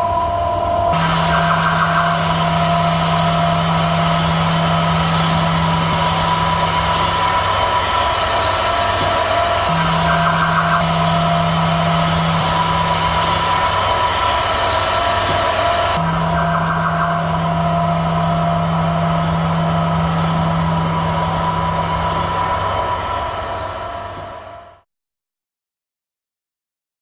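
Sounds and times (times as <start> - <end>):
dense rumbling drone: 0.0 - 24.8.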